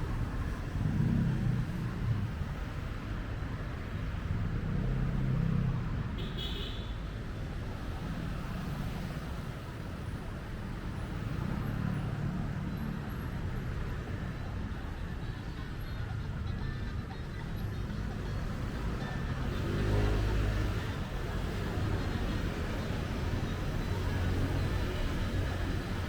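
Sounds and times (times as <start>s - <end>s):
rumble of passing cars: 0.0s - 26.0s.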